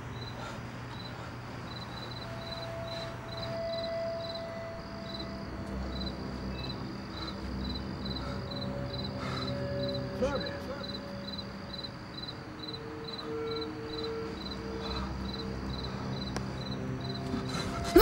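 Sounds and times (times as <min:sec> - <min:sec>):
crickets chirping: 0:00.0 - 0:18.0
low steady drone: 0:00.0 - 0:18.0.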